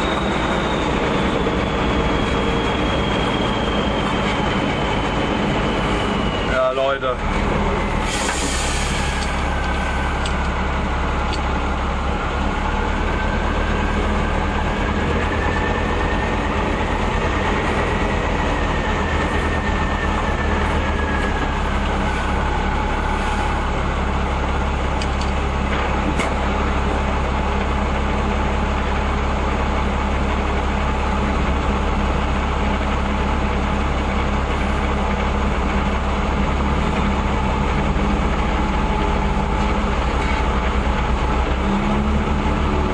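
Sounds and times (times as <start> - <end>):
high whine: 0.0 - 41.5
army truck engine droning: 0.0 - 42.9.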